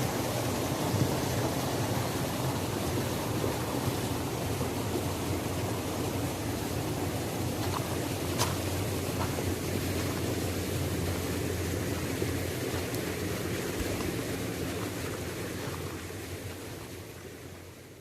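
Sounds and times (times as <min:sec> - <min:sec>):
waterfall roaring: 0:00.0 - 0:17.6.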